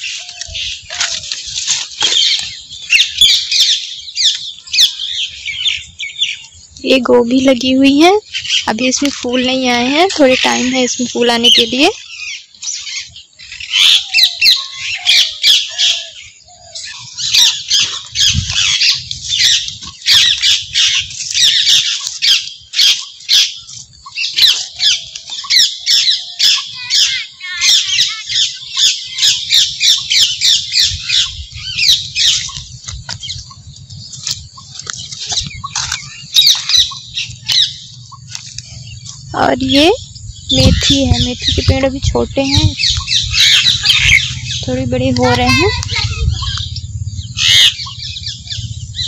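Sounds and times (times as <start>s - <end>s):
birds chirping and chattering: 0.0s - 49.0s.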